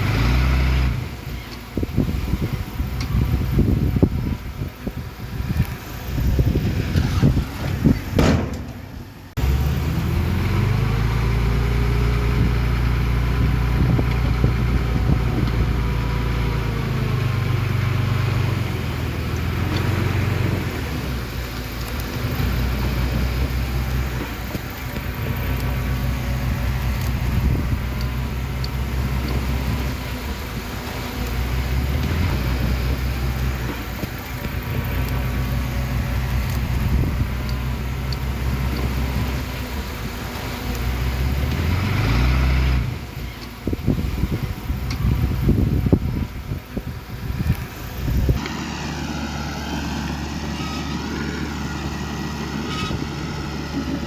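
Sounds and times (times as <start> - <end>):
heavy diesel machinery engine drone: 0.0 - 54.0
irregular rumbling noise: 0.8 - 54.0.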